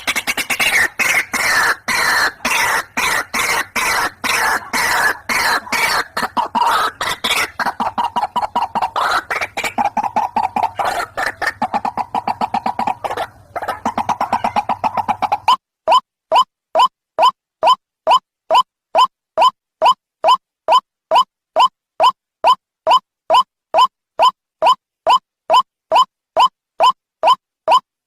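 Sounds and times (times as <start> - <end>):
waterhen calling: 0.0 - 27.8.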